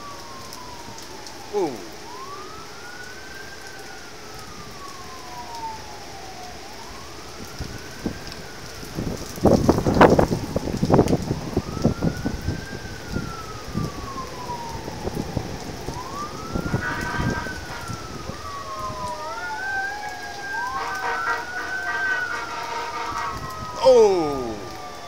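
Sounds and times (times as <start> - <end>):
emergency sirens wailing: 0.0 - 25.0
heavy rain: 0.0 - 25.0.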